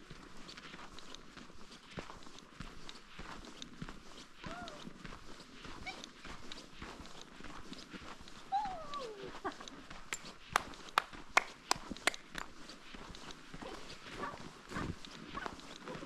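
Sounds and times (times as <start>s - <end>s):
footsteps crunching on snow: 0.0s - 16.0s.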